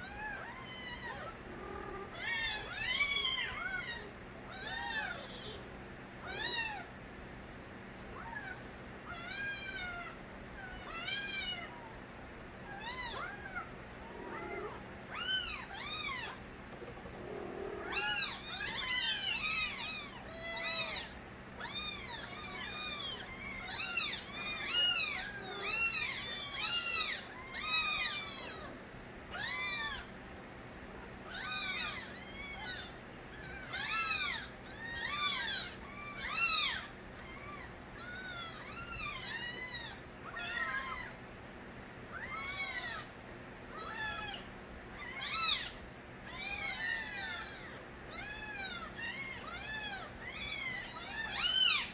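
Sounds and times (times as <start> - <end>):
kittens meowing: 0.0 - 7.0, 8.1 - 30.2, 31.0 - 41.2, 42.1 - 51.9.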